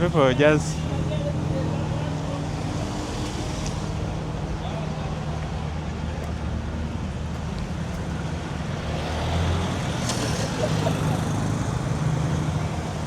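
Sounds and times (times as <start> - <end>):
street noise: 0.0 - 13.0
vehicle engines humming: 0.0 - 13.0.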